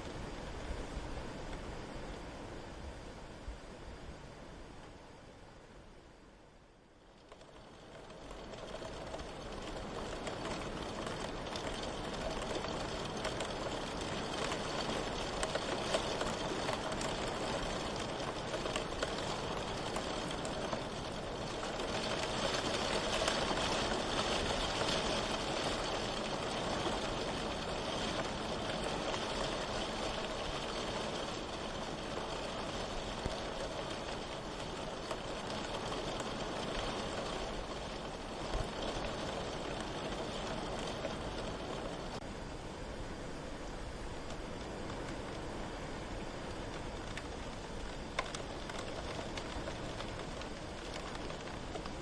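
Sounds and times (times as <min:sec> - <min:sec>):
rain falling: 0:04.7 - 0:52.0
rain drops ticking: 0:06.8 - 0:42.3, 0:43.9 - 0:52.0.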